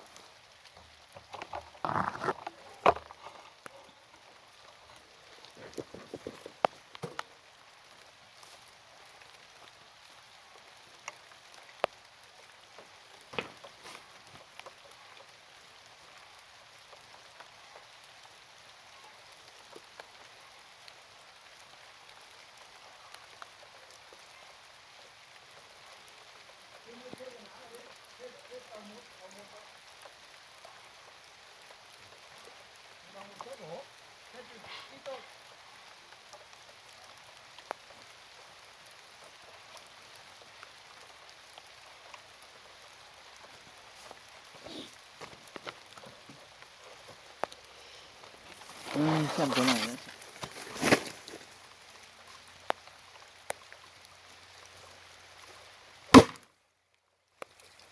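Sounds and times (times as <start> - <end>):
faint steady hiss: 0.0 - 57.9.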